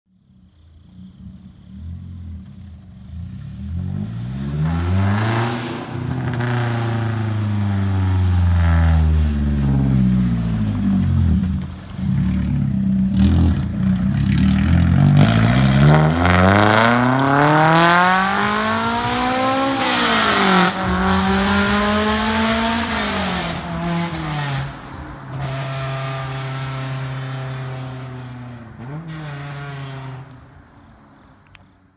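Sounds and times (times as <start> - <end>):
car engine accelerating hard: 0.9 - 30.6.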